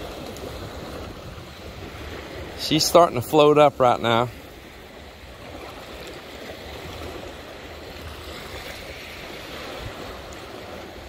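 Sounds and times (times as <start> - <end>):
small waves on pebbly beach: 0.0 - 11.0.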